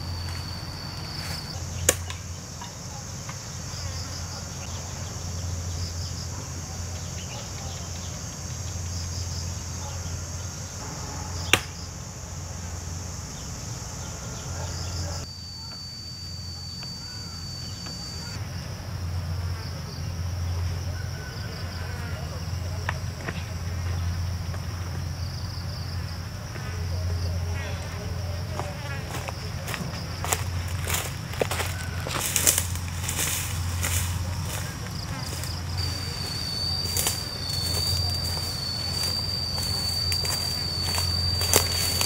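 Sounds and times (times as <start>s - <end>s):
insects buzzing and chirping: 0.0s - 42.0s
low steady hum: 7.9s - 42.0s.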